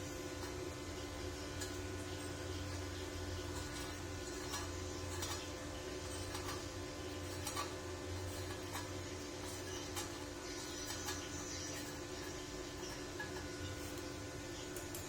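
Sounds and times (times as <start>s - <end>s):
welding machine electrical hum: 0.0s - 15.0s.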